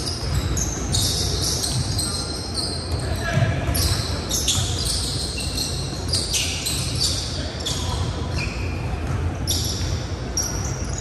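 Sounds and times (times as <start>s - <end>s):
low hum of hall: 0.0s - 11.0s
sneakers squeaking on hardwood: 0.0s - 11.0s.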